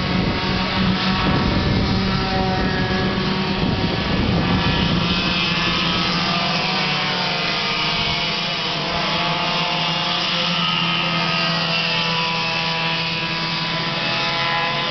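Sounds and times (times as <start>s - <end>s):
go-kart engines droning: 0.0s - 14.9s.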